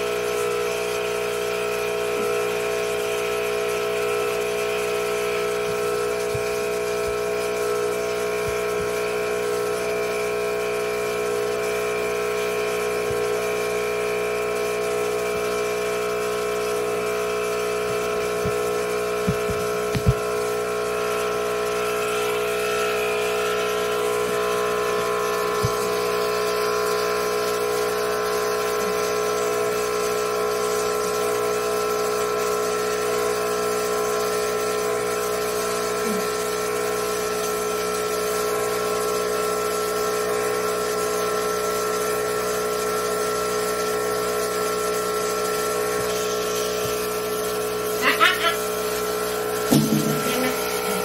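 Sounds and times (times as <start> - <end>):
vacuum pump humming: 0.0 - 51.0.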